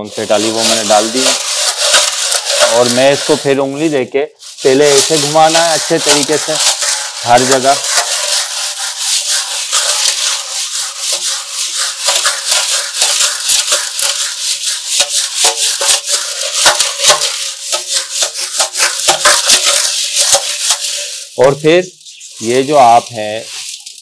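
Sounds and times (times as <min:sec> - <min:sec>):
balls and chains rattling in tank: 0:00.2 - 0:03.6, 0:05.0 - 0:21.4.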